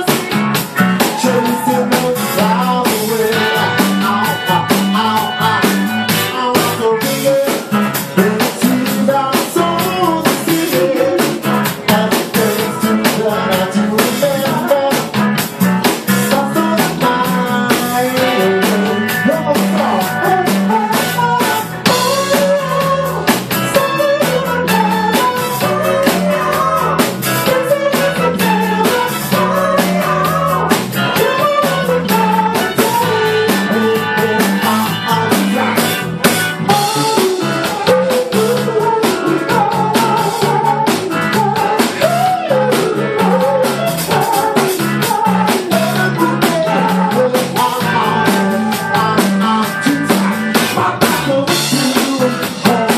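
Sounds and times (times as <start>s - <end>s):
person singing: 0.0s - 15.2s, 16.2s - 52.9s
funk band playing: 0.0s - 52.9s.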